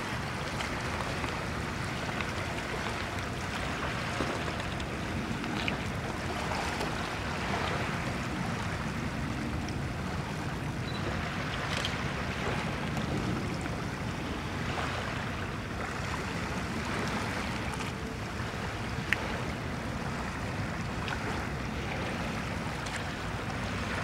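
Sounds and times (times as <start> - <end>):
water rushing on shore: 0.0 - 24.0.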